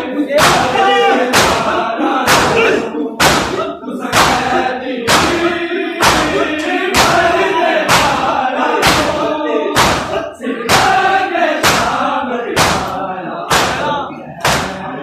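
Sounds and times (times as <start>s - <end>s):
crowd slapping chests: 0.0s - 15.0s
voices chanting a lament: 0.0s - 15.0s.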